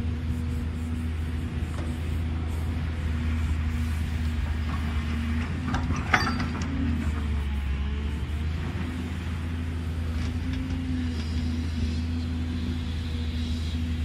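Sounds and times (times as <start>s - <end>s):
excavator diesel engine: 0.0s - 14.0s.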